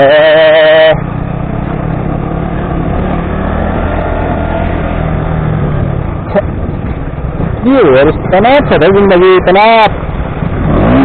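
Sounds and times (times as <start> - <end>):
motorcycle engine running low revs: 0.0 - 11.0.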